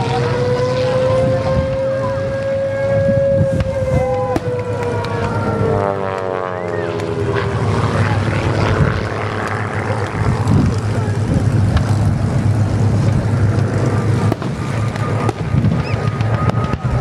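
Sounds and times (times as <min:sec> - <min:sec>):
crowd voices: 0:00.0 - 0:17.0
distant propeller plane droning: 0:00.0 - 0:17.0
steady rumbling noise: 0:00.0 - 0:17.0.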